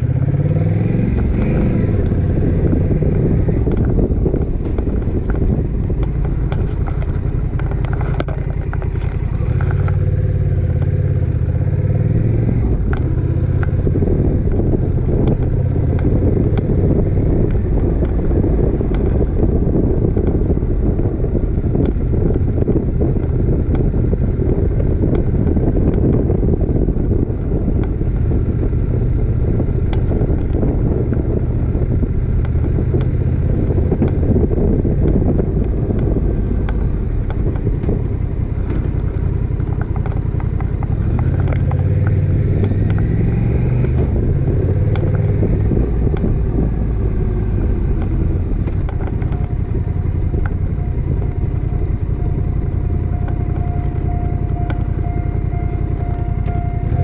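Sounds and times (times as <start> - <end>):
motorcycle engine running: 0.0 - 57.0
wind rushing past microphone: 0.0 - 57.0.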